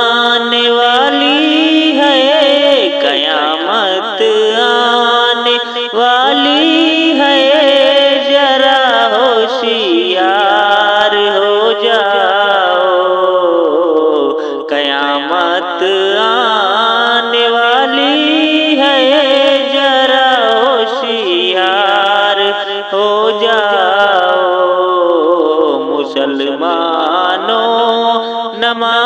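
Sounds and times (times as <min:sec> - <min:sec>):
layered voices singing devotional music: 0:00.0 - 0:29.0.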